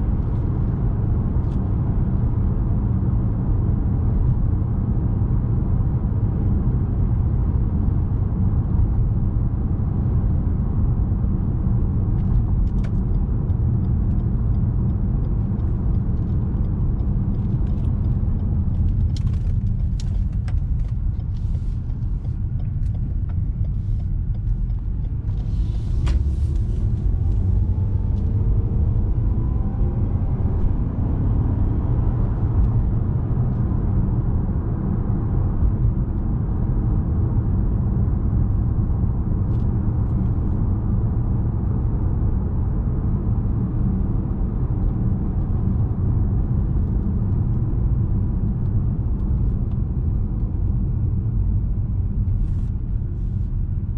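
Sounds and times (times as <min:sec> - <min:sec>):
engine and road noise: 0:00.0 - 0:53.9.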